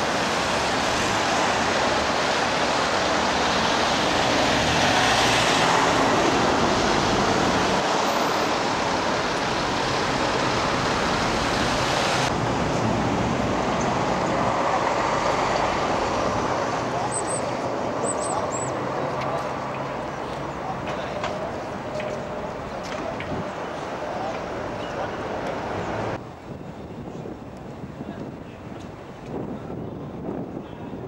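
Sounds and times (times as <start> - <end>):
busy road traffic roar: 0.0 - 31.0.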